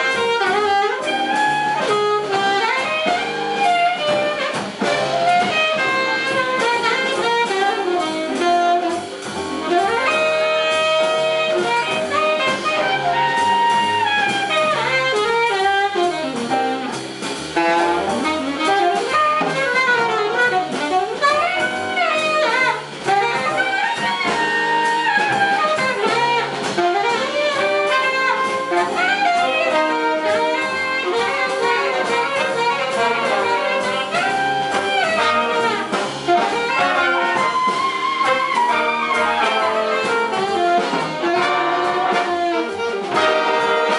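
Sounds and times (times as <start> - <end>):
big band playing jazz: 0.0 - 43.9.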